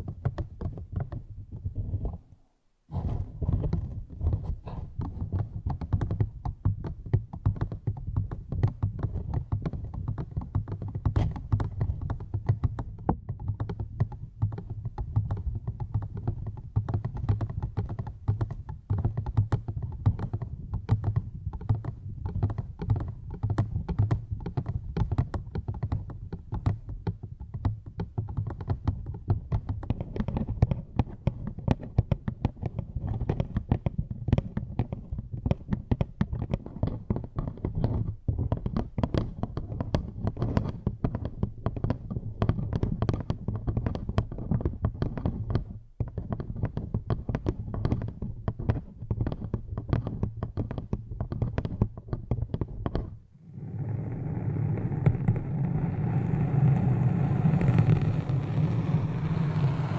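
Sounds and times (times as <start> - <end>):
rapid tapping and clicking: 3.4 - 53.2.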